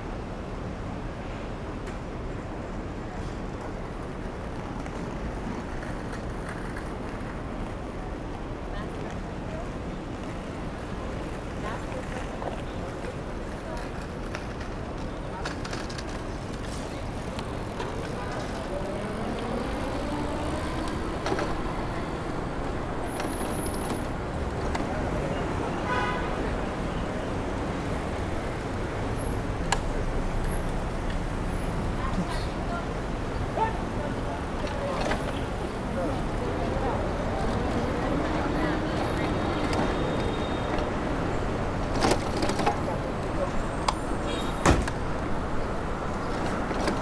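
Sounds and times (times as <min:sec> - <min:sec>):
city traffic rumble: 0:00.0 - 0:47.0.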